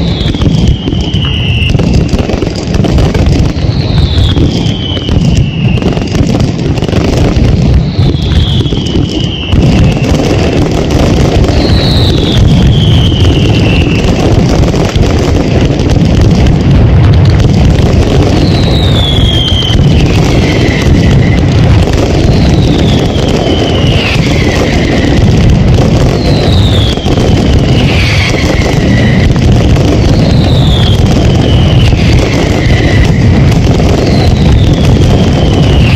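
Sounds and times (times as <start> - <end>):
firecracker bangs: 0.0 - 35.9
whistling fireworks: 0.0 - 35.9.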